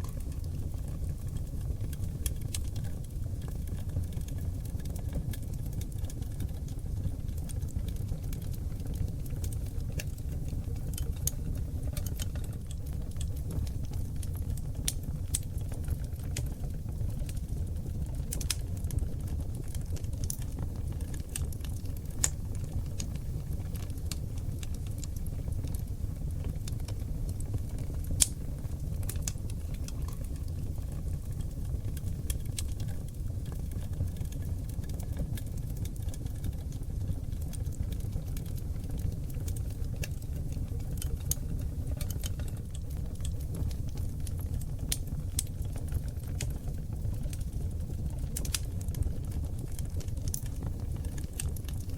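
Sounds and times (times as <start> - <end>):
fire crackling and popping: 0.0 - 51.9
fire rumbling: 0.0 - 51.9.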